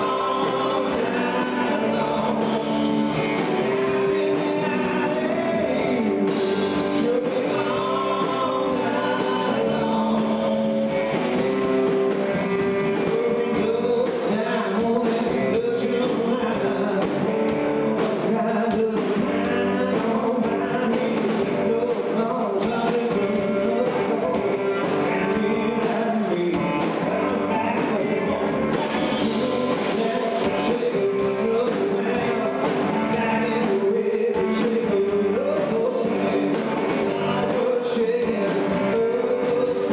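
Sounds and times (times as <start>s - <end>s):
country-rock band playing: 0.0s - 39.9s
person singing: 0.0s - 39.9s.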